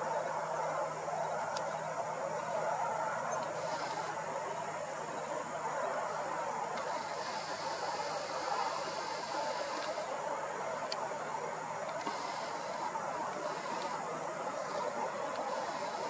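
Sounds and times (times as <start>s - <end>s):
distant traffic: 0.0s - 16.0s
insects: 0.0s - 16.0s.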